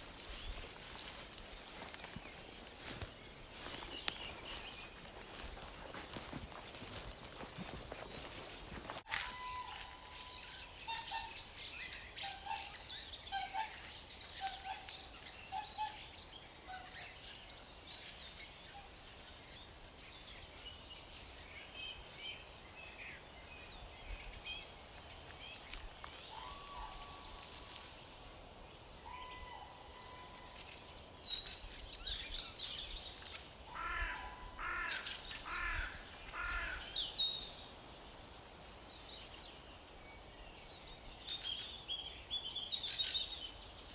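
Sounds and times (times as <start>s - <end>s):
birds singing and chirping: 0.0s - 18.9s, 20.2s - 43.9s.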